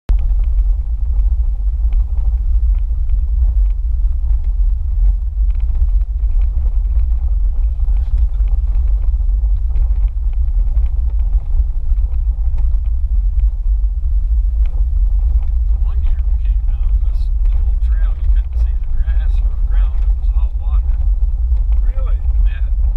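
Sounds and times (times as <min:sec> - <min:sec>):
vehicle rumbling on dirt trail: 0:00.1 - 0:22.9.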